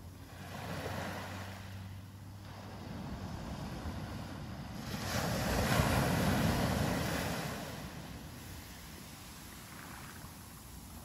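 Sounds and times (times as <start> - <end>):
wave breaking on beach: 0.3 - 10.8.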